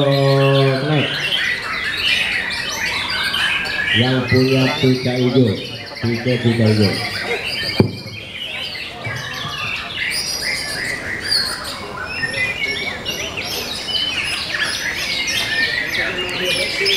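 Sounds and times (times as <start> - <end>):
songbird singing: 0.0 - 16.9.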